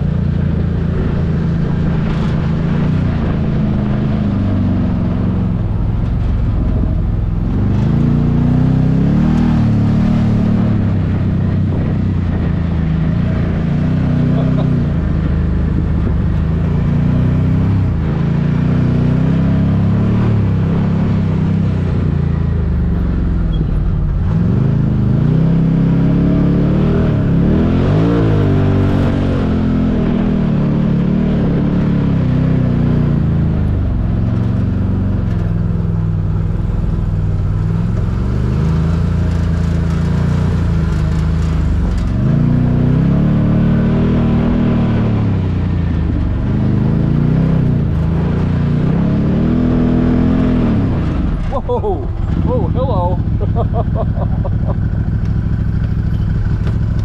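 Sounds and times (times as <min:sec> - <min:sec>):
engine revving: 0:00.0 - 0:57.0.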